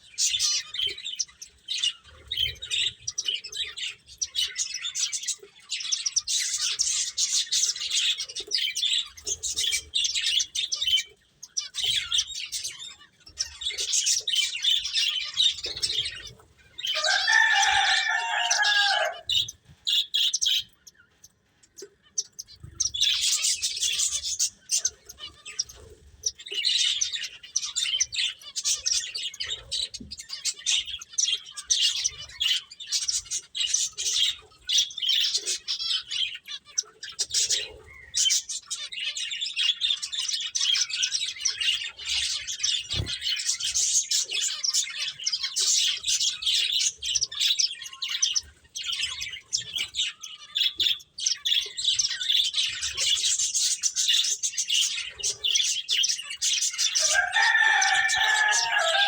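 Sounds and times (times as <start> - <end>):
finches twittering: 0.0 - 59.0.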